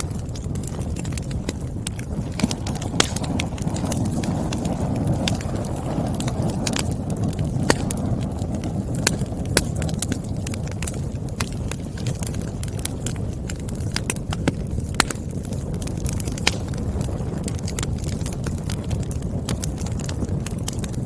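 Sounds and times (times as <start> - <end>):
firewood crackling and popping: 0.0 - 21.0.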